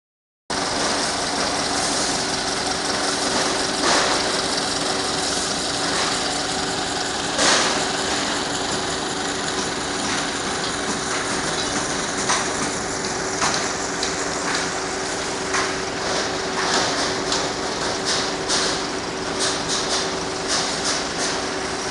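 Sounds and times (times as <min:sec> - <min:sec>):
machinery engine humming: 0:00.5 - 0:21.9
sharp knocks and clanks: 0:02.4 - 0:21.6.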